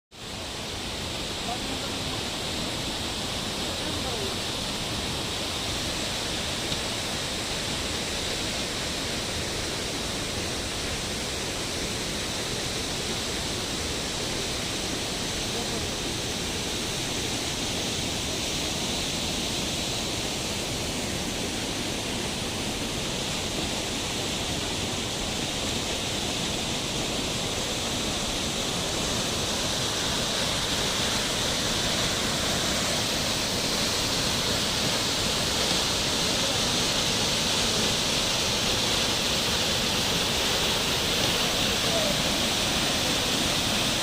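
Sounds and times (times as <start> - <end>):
waterfall rushing: 0.2 - 44.0.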